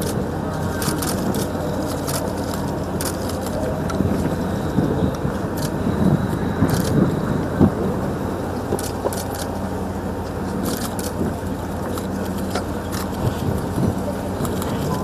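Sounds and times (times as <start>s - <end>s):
engine hum: 0.0s - 15.0s
open-air noise: 0.0s - 15.0s.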